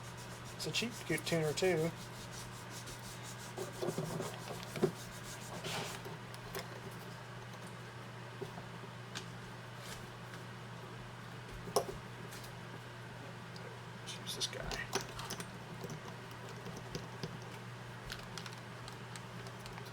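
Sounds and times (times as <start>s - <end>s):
low electrical hum: 0.0s - 19.9s.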